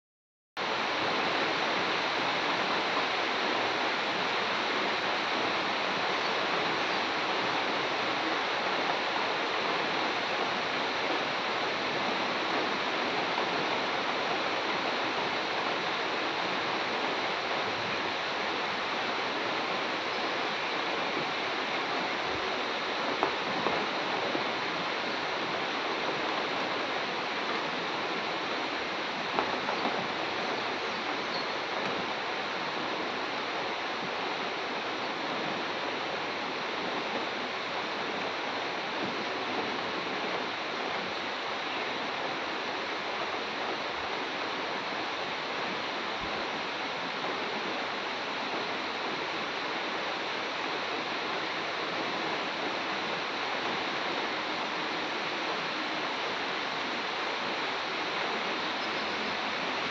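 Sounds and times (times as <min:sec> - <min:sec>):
rain falling on trees: 0:00.6 - 0:59.9.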